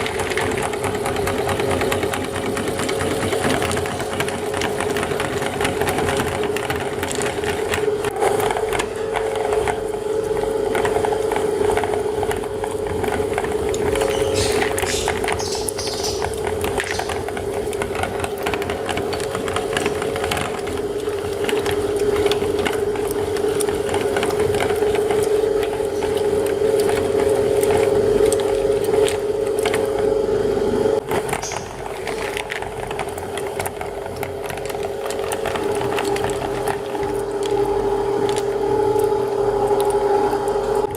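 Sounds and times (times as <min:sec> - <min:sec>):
candy crunching in grinder: 0:00.0 - 0:40.9
meat grinder motor humming: 0:00.0 - 0:40.9.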